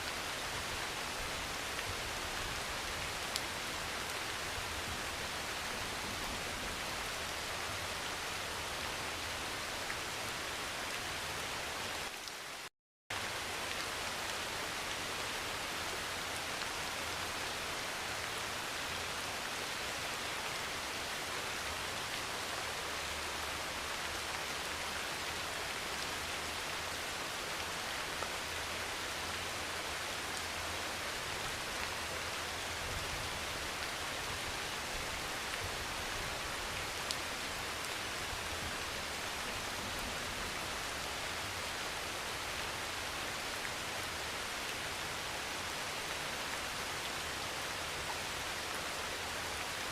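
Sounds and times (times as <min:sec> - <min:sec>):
heavy rain on a metal roof: 0:00.0 - 0:49.9.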